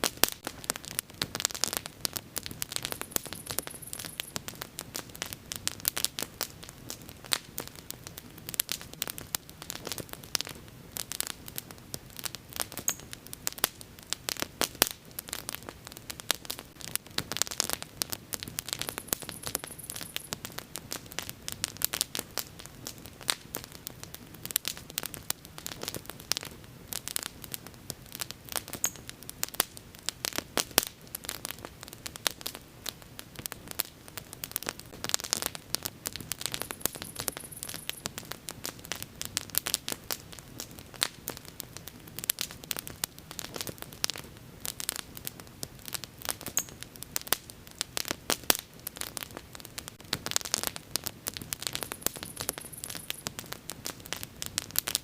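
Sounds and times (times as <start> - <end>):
bonfire crackling and popping: 0.0 - 55.0
low background of flames: 0.0 - 55.0.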